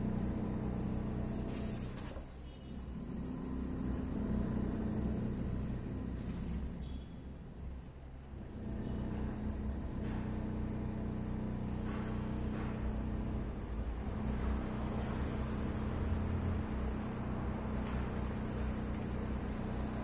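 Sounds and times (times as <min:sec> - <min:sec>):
constant hum: 0:00.0 - 0:20.0
low mechanical rumble: 0:00.0 - 0:20.0.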